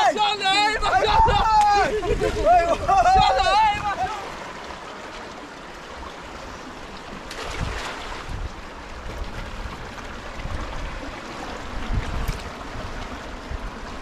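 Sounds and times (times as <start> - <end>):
river water rushing: 0.0 - 14.0
wind rumbling on microphone: 0.0 - 14.0.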